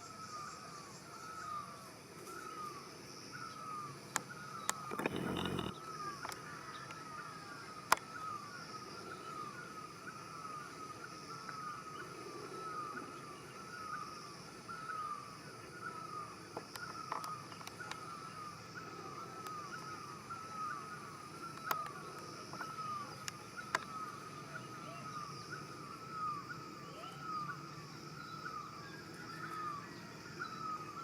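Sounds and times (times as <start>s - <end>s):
faint outdoor ambience: 0.0s - 31.0s.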